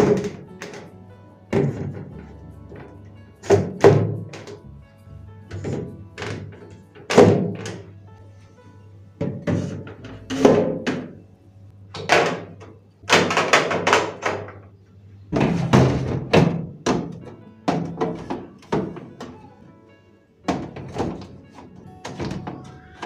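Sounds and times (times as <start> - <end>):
items knocking and clattering: 0.0 - 4.7, 5.5 - 7.9, 9.2 - 11.2, 11.9 - 19.5, 20.4 - 23.0.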